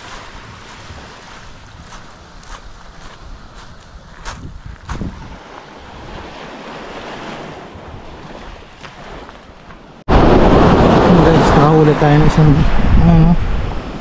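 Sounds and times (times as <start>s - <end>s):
wind buffeting microphone: 0.0s - 9.2s, 9.8s - 14.0s
waves washing onto pebbles: 0.0s - 14.0s.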